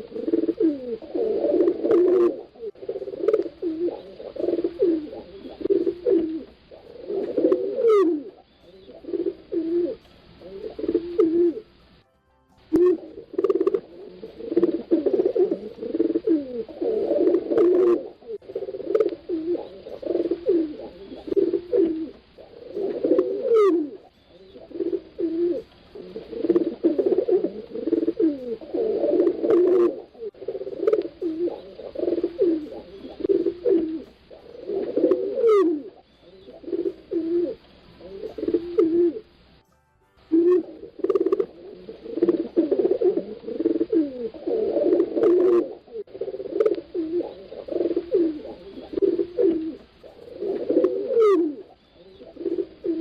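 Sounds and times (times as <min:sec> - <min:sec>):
pigeons cooing: 0:00.0 - 0:12.0, 0:12.7 - 0:39.6, 0:40.3 - 0:53.0.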